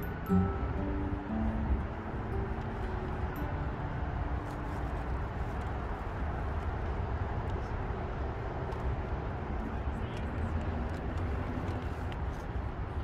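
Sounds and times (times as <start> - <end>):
low rumble of bridge traffic: 0.0 - 13.0.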